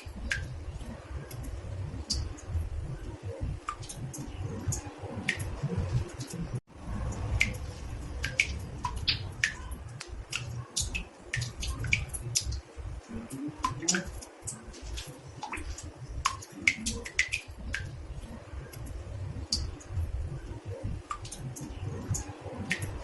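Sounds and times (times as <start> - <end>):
steady low rumble: 0.0 - 23.0
water drops falling into bathtub: 0.0 - 23.0.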